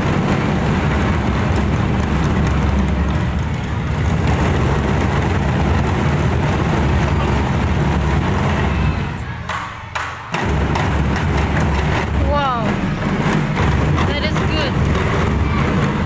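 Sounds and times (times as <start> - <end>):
drums rumbling: 0.0 - 16.0.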